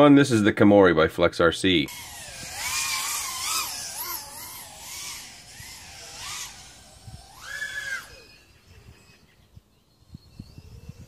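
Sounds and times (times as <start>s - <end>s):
quadcopter motors whining: 1.9s - 11.0s.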